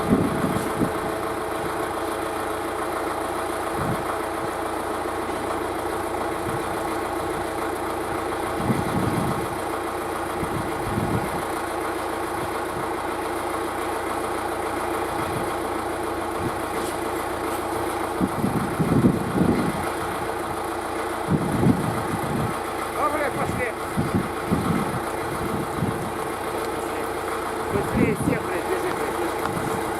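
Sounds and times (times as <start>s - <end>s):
vehicle engine running: 0.0s - 29.9s.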